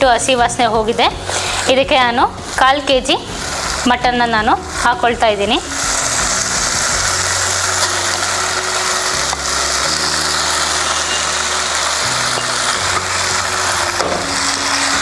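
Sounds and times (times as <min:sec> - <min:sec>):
background music: 0:00.0 - 0:15.0
meat frying in oil: 0:00.0 - 0:15.0.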